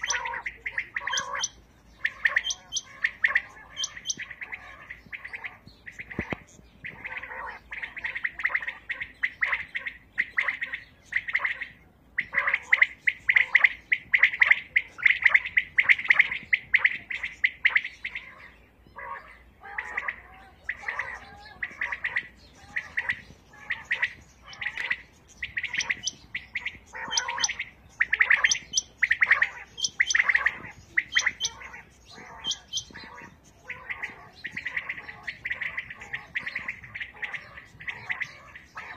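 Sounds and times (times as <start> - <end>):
quails chirping calls: 0.0 - 38.9.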